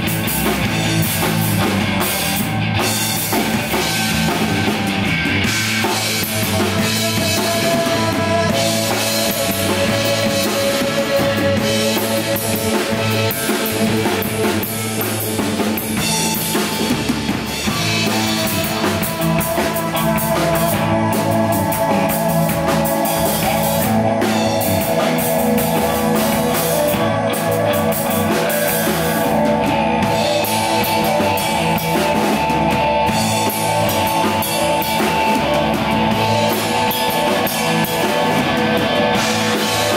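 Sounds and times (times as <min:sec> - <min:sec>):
live rock band playing loudly: 0:00.0 - 0:39.9.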